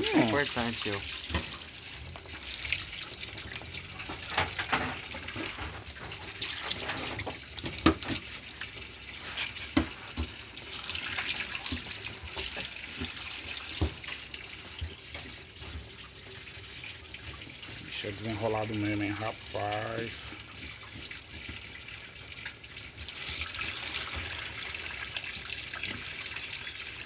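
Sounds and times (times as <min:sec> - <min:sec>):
tap running into basin: 0:00.0 - 0:27.0.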